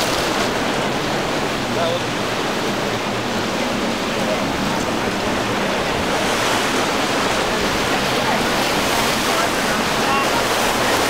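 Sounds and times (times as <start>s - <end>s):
waves and surf rushing: 0.0s - 11.0s.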